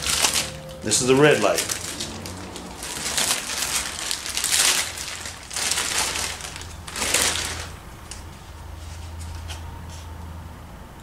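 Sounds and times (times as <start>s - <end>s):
plastic wrapping crinkling: 0.0s - 9.6s.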